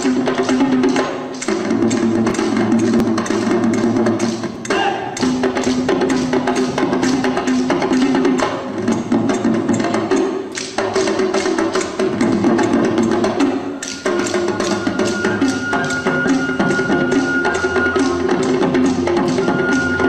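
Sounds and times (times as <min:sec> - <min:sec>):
dance music with fast percussion: 0:00.0 - 0:20.0.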